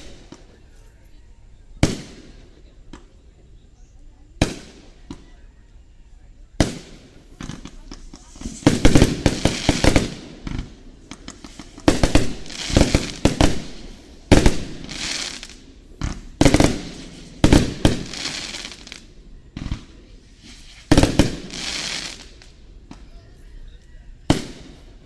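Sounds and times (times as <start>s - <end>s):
fireworks booming: 0.0s - 0.8s, 1.5s - 3.6s, 4.2s - 5.4s, 6.6s - 23.2s, 24.2s - 25.0s
fireworks hissing tails: 0.0s - 23.4s, 24.2s - 25.0s.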